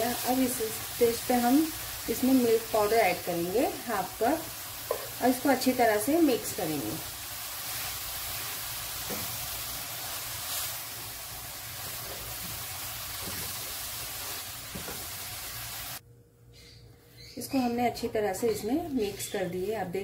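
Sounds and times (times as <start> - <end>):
soft sizzling in a pan: 0.0 - 16.0, 17.4 - 20.0.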